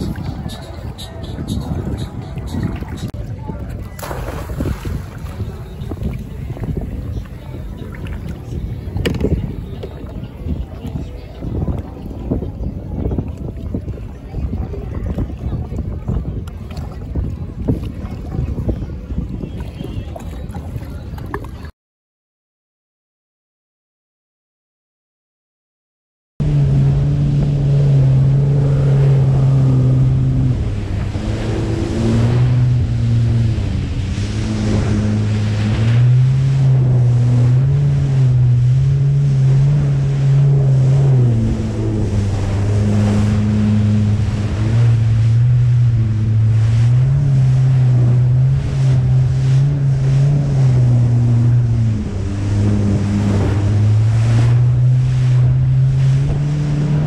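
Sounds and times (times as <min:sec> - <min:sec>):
jet ski engine running: 0:00.0 - 0:21.7, 0:26.4 - 0:57.0
wind on microphone: 0:00.0 - 0:21.7, 0:26.4 - 0:57.0.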